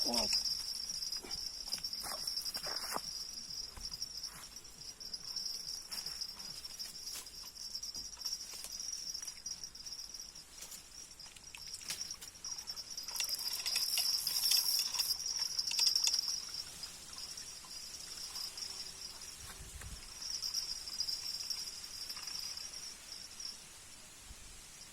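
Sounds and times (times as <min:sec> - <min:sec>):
crickets trilling: 0:00.0 - 0:24.9.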